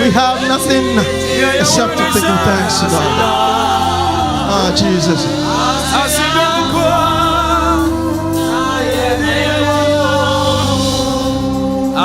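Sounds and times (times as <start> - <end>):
sustained accompaniment chords: 0.0 - 12.0
voices singing long notes: 0.0 - 12.0.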